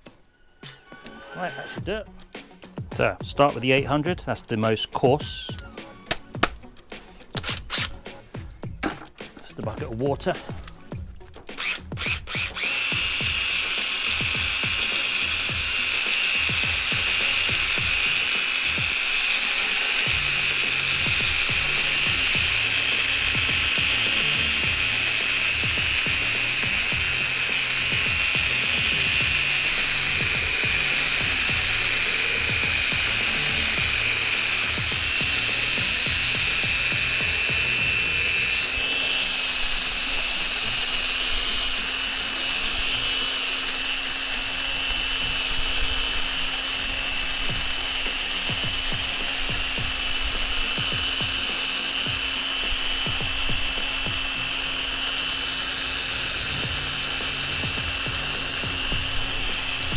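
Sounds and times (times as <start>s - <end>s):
electric drill whine: 0.0s - 59.9s
sanding pad rubbing: 10.3s - 59.9s.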